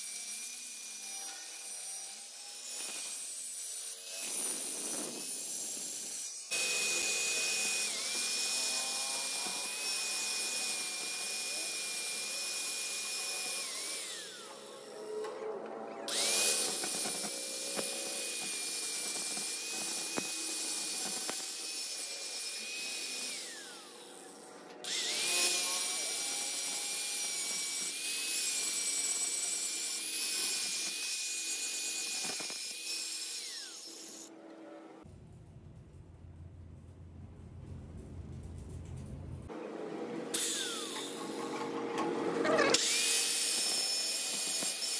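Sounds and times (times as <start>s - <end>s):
angle grinder grinding steel: 0.0s - 35.0s, 40.3s - 44.9s.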